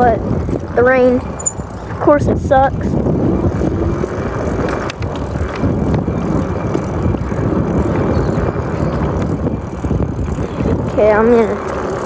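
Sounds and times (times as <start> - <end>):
bike on wet road: 0.0 - 12.0
wind rumbling on microphone: 0.0 - 12.0.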